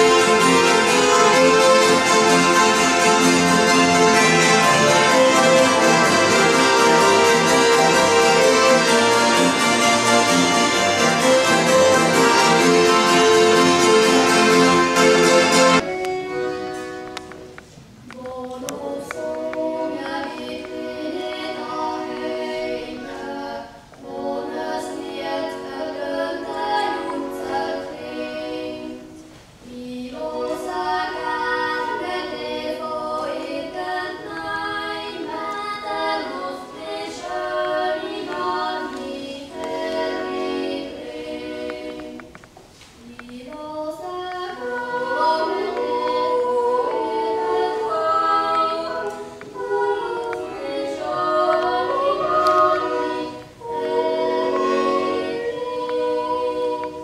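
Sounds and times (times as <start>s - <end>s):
yodel choir singing a cappella: 0.0s - 16.9s, 18.0s - 42.4s, 43.0s - 57.0s.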